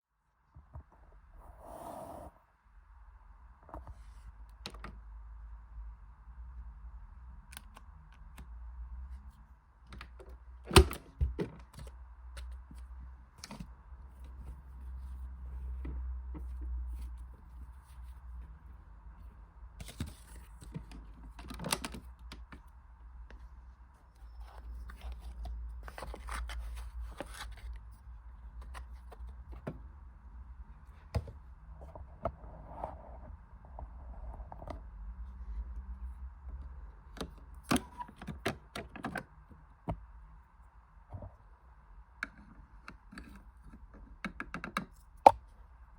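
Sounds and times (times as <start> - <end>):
faint hum and low rumble: 0.1 - 45.9.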